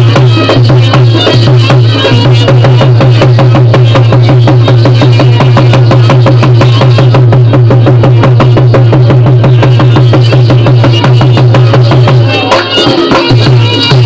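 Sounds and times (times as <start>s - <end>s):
fast drumbeats: 0.0s - 14.0s.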